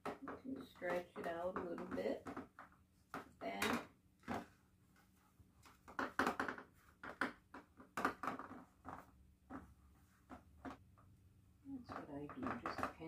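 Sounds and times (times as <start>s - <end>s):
hands pressing dough: 0.0s - 13.0s.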